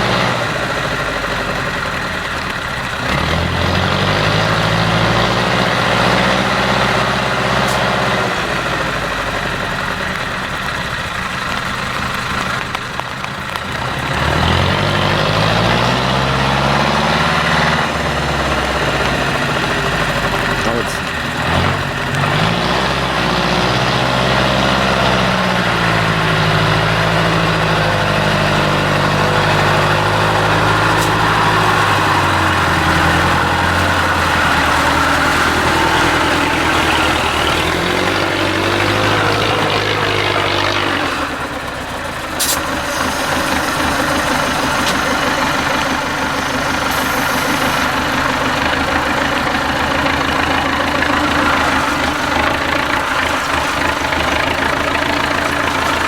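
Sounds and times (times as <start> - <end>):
truck diesel engine working: 0.0 - 56.0.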